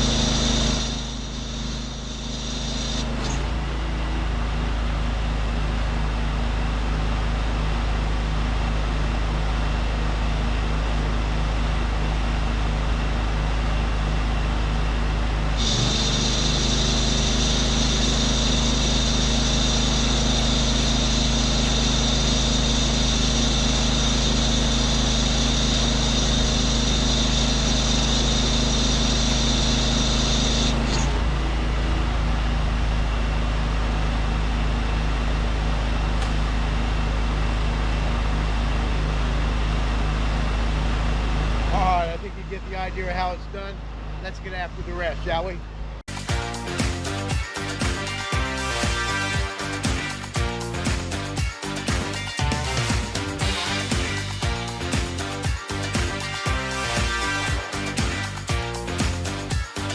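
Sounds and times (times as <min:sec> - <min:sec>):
pressure washer engine and pump: 0:00.0 - 0:59.9.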